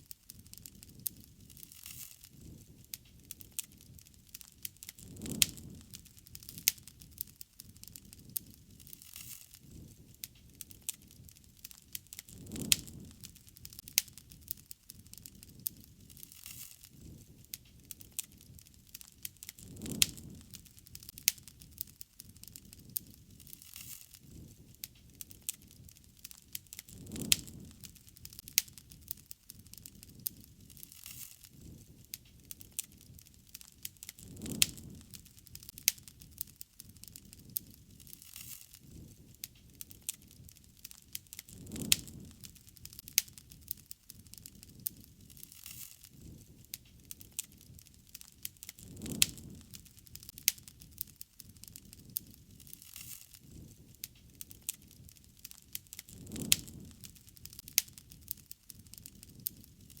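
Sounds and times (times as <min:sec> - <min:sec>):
campfire crackling with sharp pops: 0:00.0 - 1:00.0
low rush of flame: 0:00.0 - 1:00.0.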